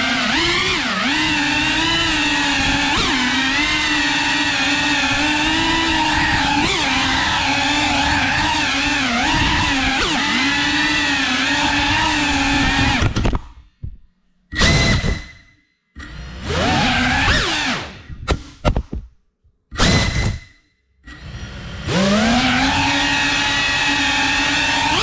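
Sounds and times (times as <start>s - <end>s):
drone motors whining: 0.0s - 13.4s, 14.5s - 18.2s, 19.8s - 25.0s.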